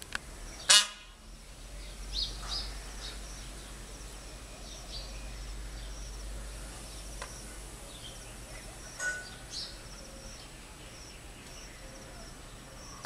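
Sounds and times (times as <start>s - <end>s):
outdoor background noise: 0.0s - 13.0s
small birds chirping: 0.0s - 13.0s.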